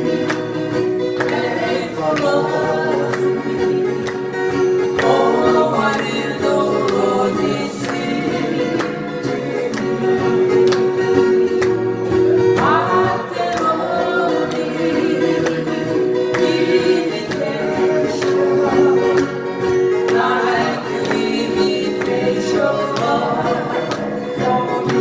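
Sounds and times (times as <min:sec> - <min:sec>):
men singing together: 0:00.0 - 0:11.4, 0:12.4 - 0:25.0
acoustic guitars strummed: 0:00.0 - 0:25.0.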